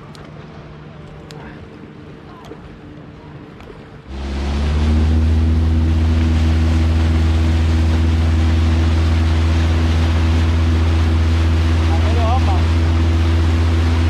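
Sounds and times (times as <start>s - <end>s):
boat motor droning: 0.0s - 14.0s
water rushing: 0.0s - 14.0s
wind: 0.0s - 14.0s.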